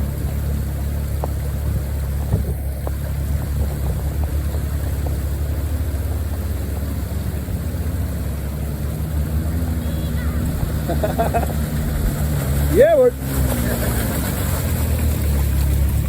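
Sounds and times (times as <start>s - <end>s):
off-road vehicle engine droning: 0.0s - 16.0s.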